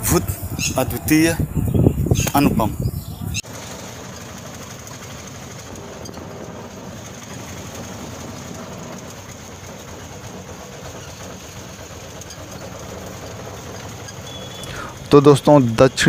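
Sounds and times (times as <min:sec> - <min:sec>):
road noise: 0:00.0 - 0:16.0
small engine running: 0:00.0 - 0:16.0.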